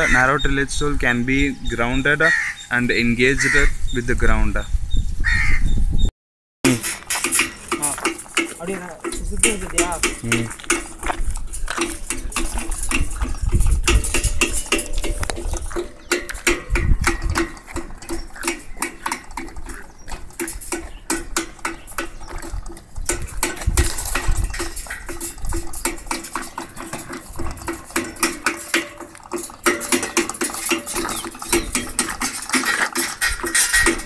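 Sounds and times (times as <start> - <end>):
metallic clattering and clinking: 6.7 - 34.0.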